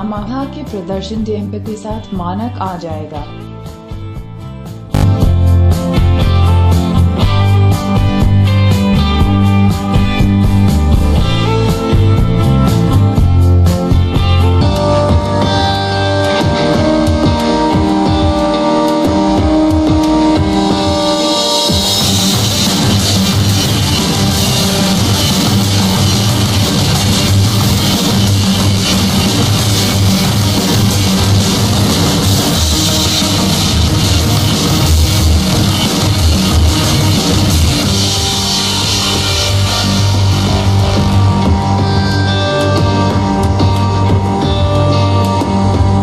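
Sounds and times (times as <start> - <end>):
drum kit playing: 0.0 - 46.0
guitar chords: 0.0 - 46.0.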